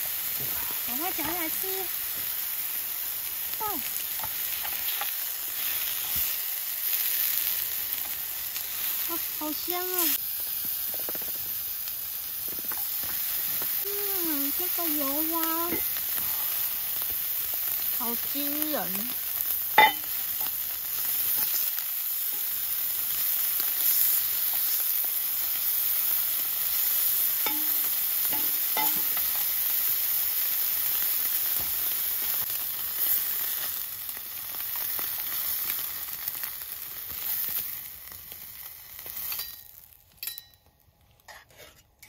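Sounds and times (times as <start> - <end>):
beef sizzling in a frying pan: 0.0 - 41.7.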